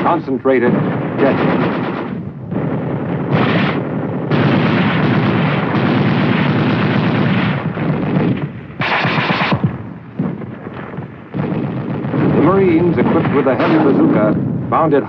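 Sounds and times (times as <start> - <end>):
rapid gunfire: 0.7 - 14.4.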